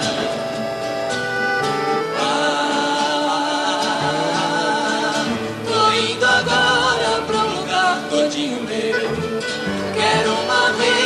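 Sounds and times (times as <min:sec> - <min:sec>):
instrumental backing: 0:00.0 - 0:11.0
person singing with wavering voice: 0:02.1 - 0:11.0.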